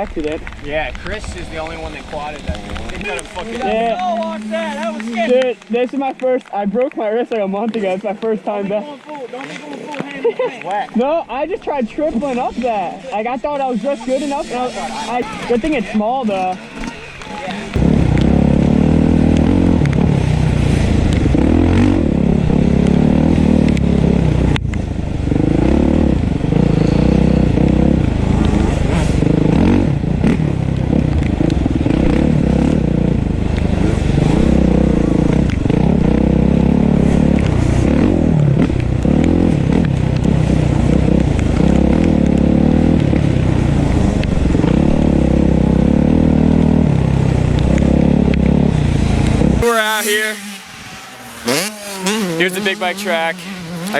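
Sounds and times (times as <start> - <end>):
dirt bike engine revving: 0.0 - 6.1, 11.3 - 53.9.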